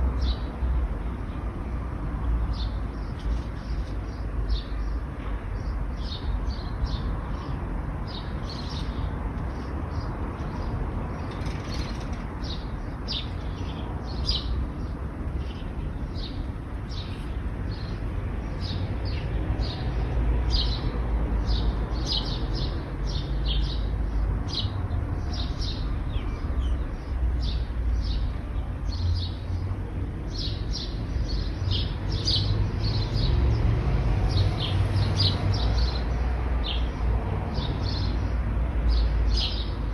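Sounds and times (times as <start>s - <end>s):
low rumble of road traffic: 0.0s - 39.9s
small birds chirping: 0.1s - 39.9s.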